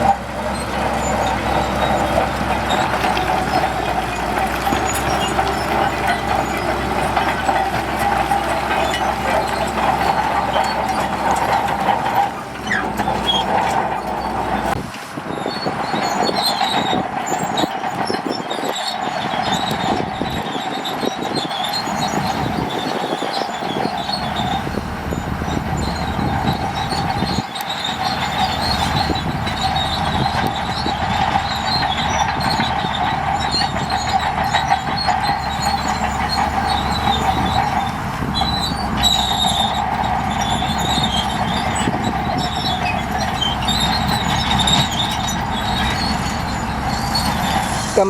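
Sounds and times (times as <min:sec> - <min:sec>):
heavy machine engine running: 0:00.0 - 0:48.0
metallic squeal and clatter: 0:00.0 - 0:48.0.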